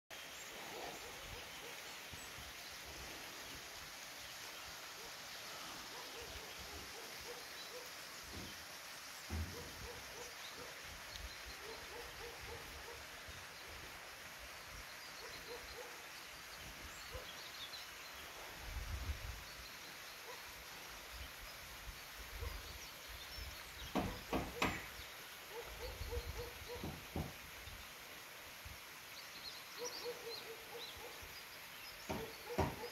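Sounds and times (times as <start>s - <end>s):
steady hiss: 0.1s - 32.9s.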